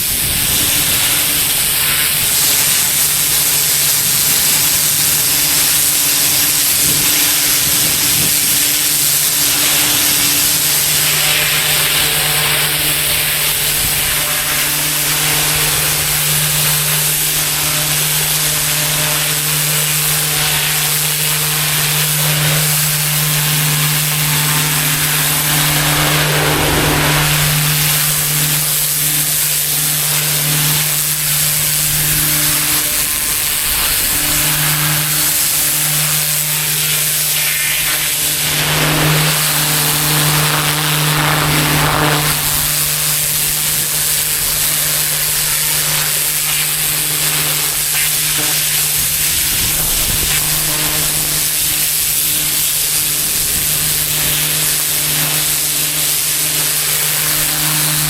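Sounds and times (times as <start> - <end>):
high-pressure water spray hiss: 0.0 - 58.0
pressure washer engine hum: 0.0 - 58.0.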